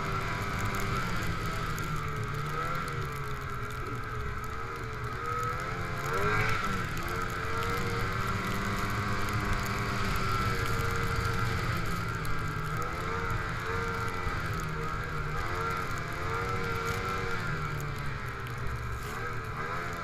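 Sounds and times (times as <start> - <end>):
snowmobile engine running: 0.0 - 20.0.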